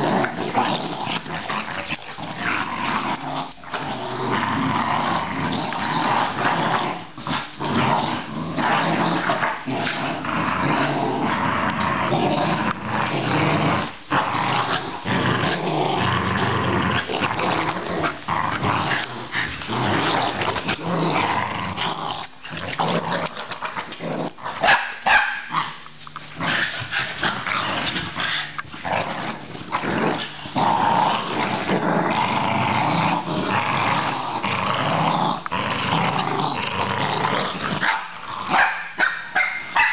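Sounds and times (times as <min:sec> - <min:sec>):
dogs growling playfully: 0:00.0 - 0:38.7.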